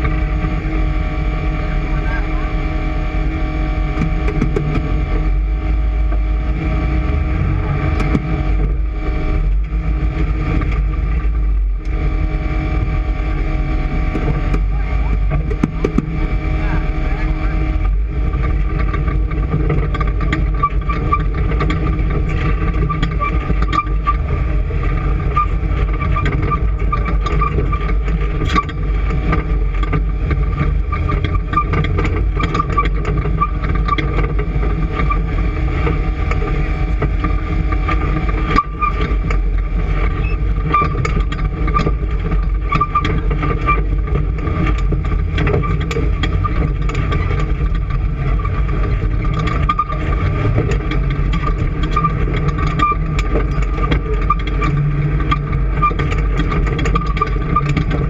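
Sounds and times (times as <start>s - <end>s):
engine running loudly: 0.0s - 58.0s
high whine: 0.0s - 58.0s.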